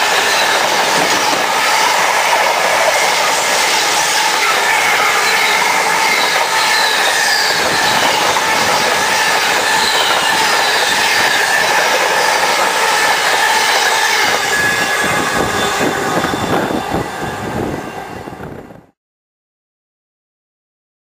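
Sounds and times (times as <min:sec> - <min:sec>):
wheels ringing and whining: 0:00.0 - 0:18.9
freight train rolling past: 0:00.0 - 0:19.0.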